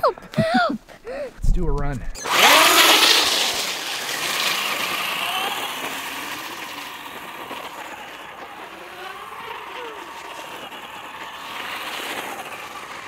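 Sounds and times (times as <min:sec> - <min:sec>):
toy truck motor whine: 0:02.2 - 0:13.0
tyre hiss on slush: 0:02.3 - 0:13.0.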